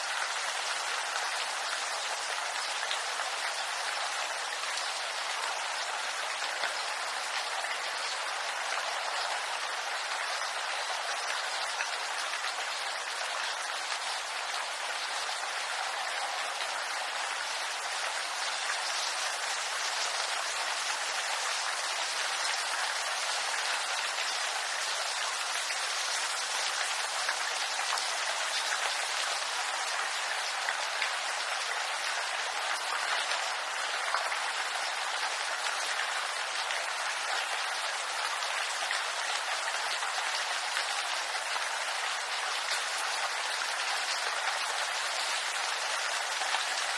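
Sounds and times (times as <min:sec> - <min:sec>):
rain pattering on leaves: 0:00.0 - 0:46.9.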